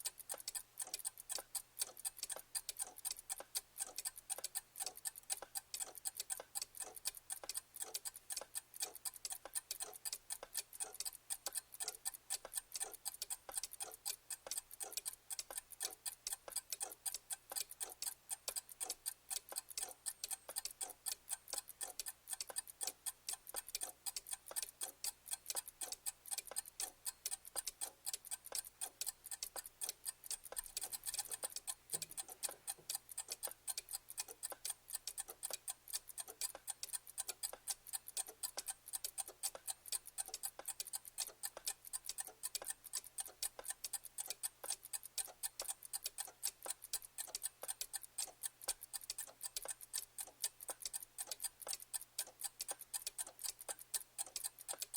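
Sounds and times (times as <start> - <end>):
clock ticking fast: 0.0 - 54.9.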